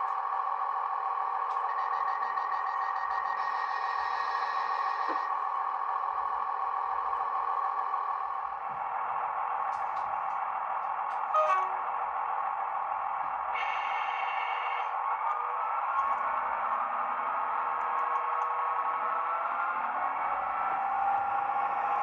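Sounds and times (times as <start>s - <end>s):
model train diesel engine sound: 0.0s - 22.0s.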